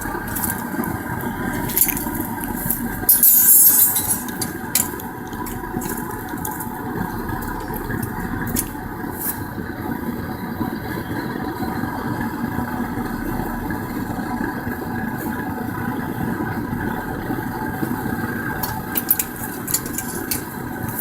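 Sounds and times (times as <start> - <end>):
propane burner rushing: 0.0 - 21.0.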